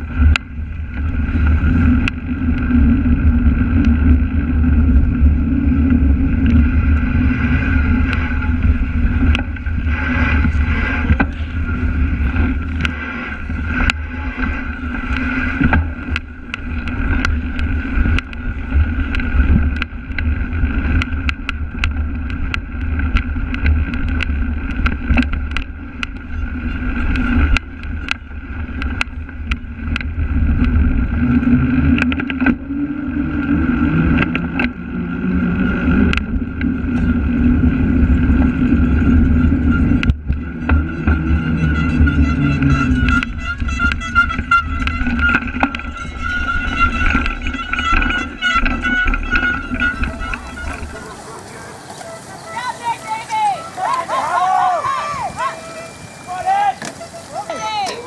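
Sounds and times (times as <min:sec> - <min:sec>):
bike rattling and clicking: 0:00.0 - 0:58.0
wind rumbling on camera: 0:00.0 - 0:58.0.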